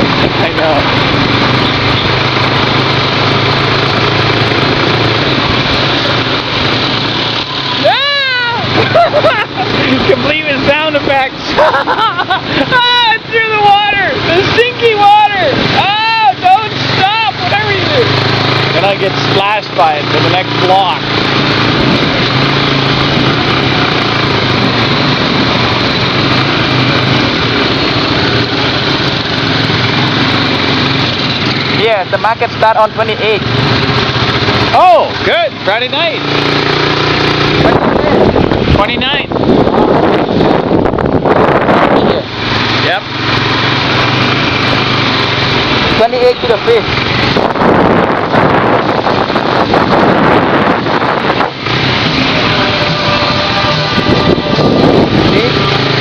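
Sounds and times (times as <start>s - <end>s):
dense rushing noise: 0.0s - 56.0s
motorbike engine running: 0.0s - 56.0s
road and wind noise: 0.0s - 56.0s.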